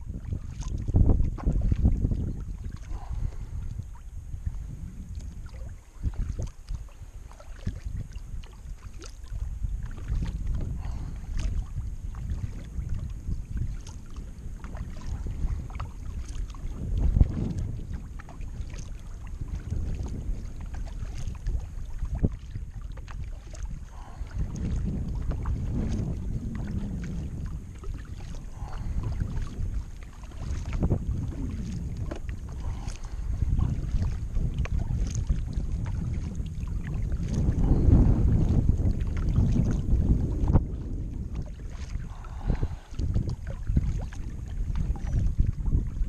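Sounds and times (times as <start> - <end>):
paddle splashing water: 0.0 - 46.0
wind on microphone: 0.0 - 46.0.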